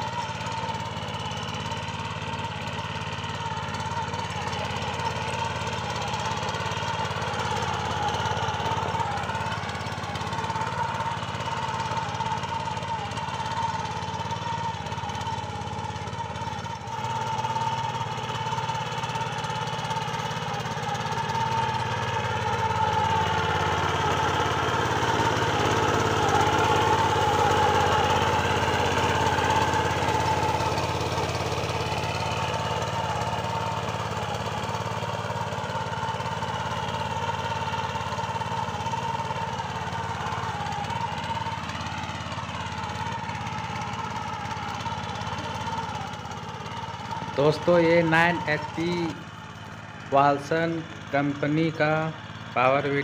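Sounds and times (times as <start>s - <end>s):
weeder engine tilling soil: 0.0s - 53.0s.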